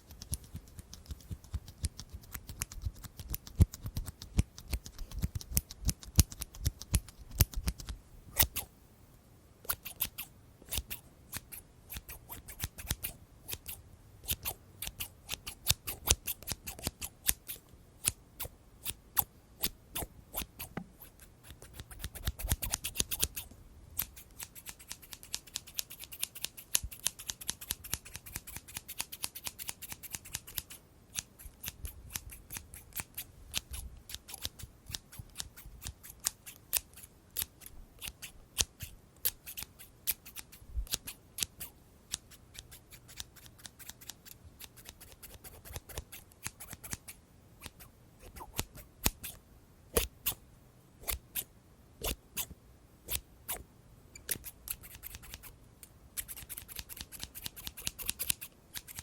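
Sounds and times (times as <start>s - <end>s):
scissors snipping: 0.0s - 8.7s, 9.6s - 49.4s, 50.0s - 50.4s, 51.0s - 52.5s, 54.2s - 59.0s.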